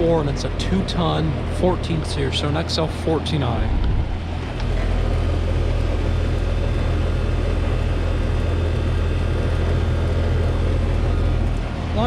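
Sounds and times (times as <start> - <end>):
compressor low hum: 0.0 - 12.0
condenser fan air rushing: 0.0 - 12.0.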